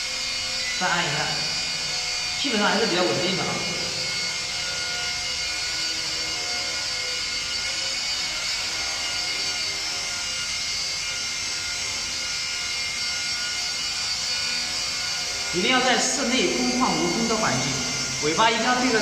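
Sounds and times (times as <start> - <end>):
toy helicopter high-pitched buzz: 0.0 - 19.0.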